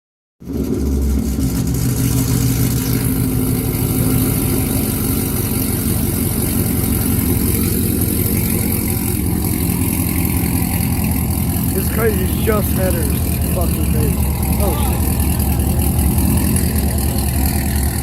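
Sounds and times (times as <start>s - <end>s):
car engine idling loudly: 0.4s - 18.0s.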